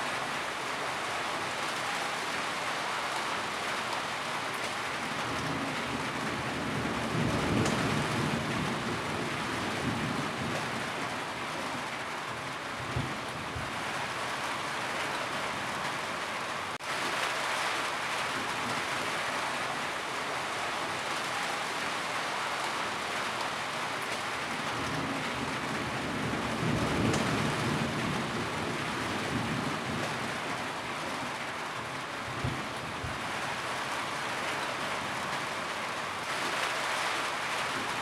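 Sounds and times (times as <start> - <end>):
rain falling on a roof: 0.0 - 38.0.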